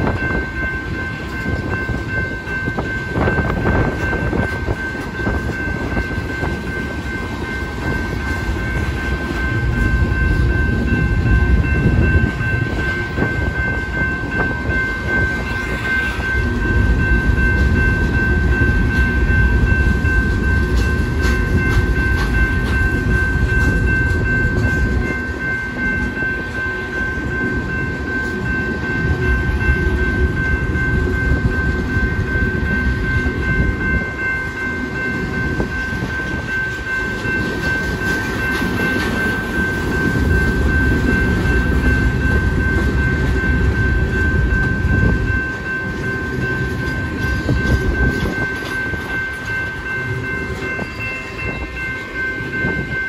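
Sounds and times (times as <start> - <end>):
crossing signal bell ringing: 0.0 - 53.0
freight train wheels rumbling: 0.0 - 53.0.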